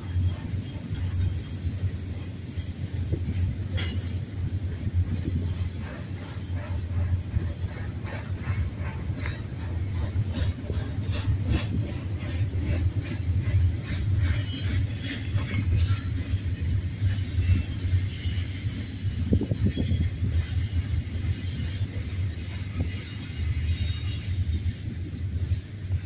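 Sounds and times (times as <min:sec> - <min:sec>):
high-pitched wheel squeal: 0:00.0 - 0:25.6
train rumbling past: 0:00.0 - 0:26.0
wheels clicking on rails: 0:00.0 - 0:26.0.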